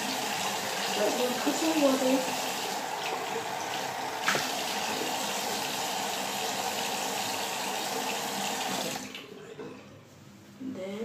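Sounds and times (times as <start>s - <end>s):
water running from sink tap: 0.0s - 9.2s.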